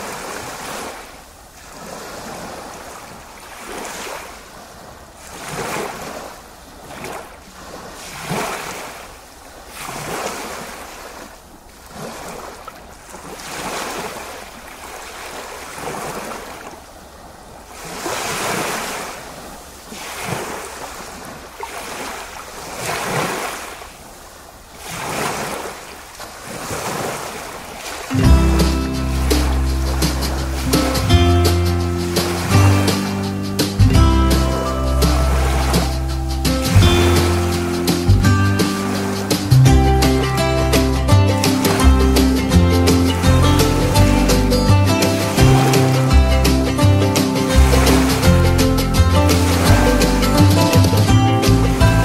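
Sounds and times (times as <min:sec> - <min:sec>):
sea waves washing: 0:00.0 - 0:52.0.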